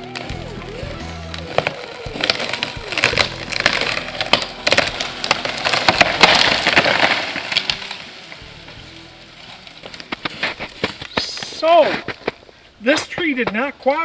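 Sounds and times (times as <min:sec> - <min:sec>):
branches crashing: 0:00.0 - 0:14.0
tree trunk cracking and splintering: 0:00.0 - 0:14.0.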